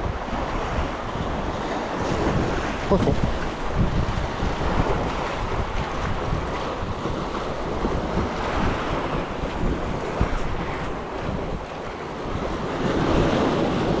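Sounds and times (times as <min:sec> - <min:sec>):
waves washing against rocks: 0:00.0 - 0:14.0
wind buffeting microphone: 0:00.0 - 0:14.0.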